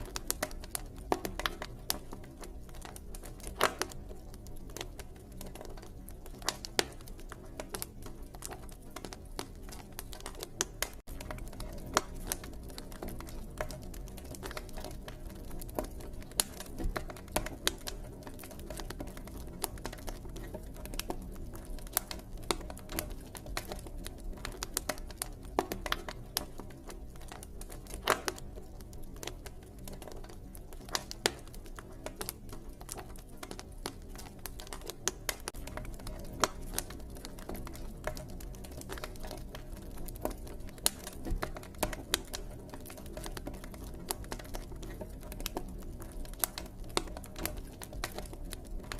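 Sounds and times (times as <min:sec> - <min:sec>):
campfire crackling: 0:00.0 - 0:48.9.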